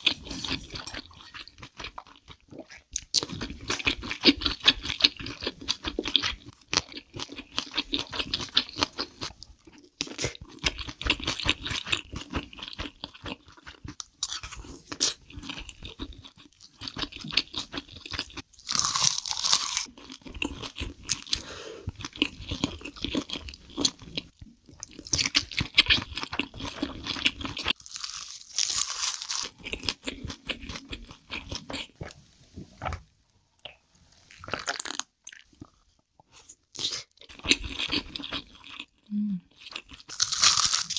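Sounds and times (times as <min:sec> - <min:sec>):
person chewing food: 0:00.0 - 0:33.0, 0:33.6 - 0:40.9.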